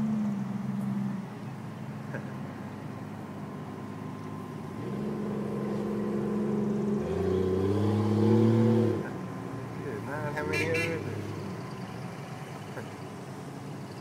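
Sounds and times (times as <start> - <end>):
engines driving past slowly: 0.0 - 14.0.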